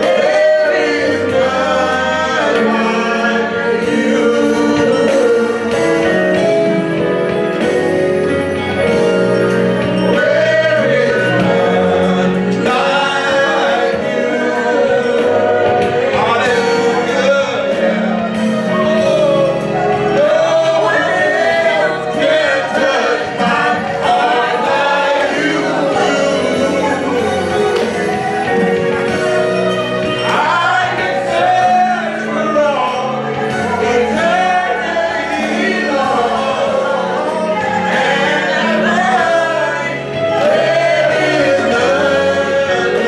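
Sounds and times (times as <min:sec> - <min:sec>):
gospel voices singing: 0:00.0 - 0:43.0
instrumental accompaniment: 0:00.0 - 0:43.0.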